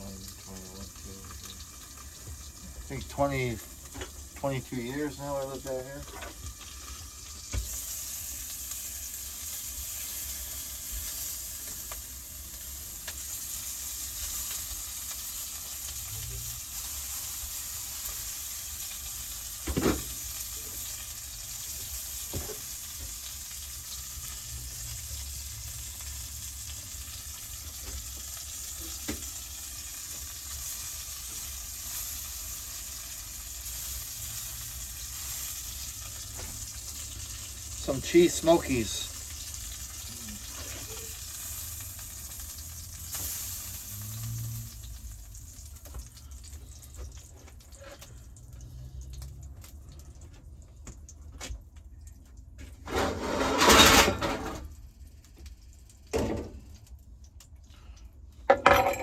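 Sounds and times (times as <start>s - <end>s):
sausages sizzling in a frying pan: 0.0s - 59.0s.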